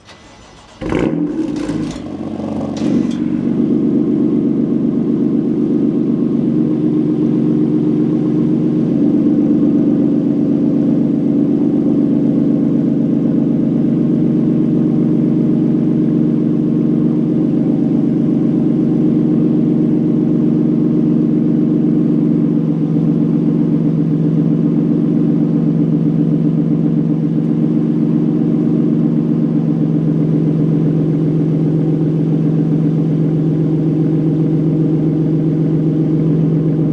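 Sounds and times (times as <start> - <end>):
car engine fast idle: 0.0 - 9.0, 12.8 - 36.9.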